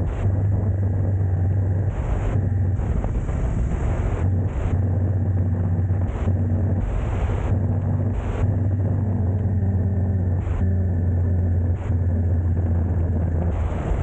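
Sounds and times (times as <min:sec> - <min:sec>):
car driving along road: 0:00.0 - 0:14.0.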